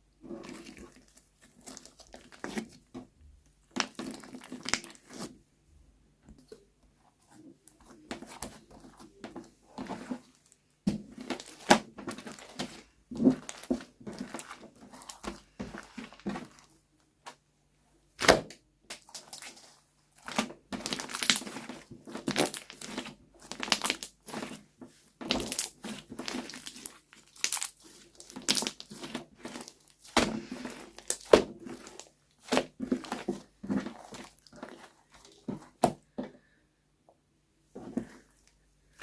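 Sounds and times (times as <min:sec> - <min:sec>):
slime squishing and crackling: 0:00.2 - 0:03.0, 0:03.6 - 0:05.3, 0:07.6 - 0:16.7, 0:18.2 - 0:35.9.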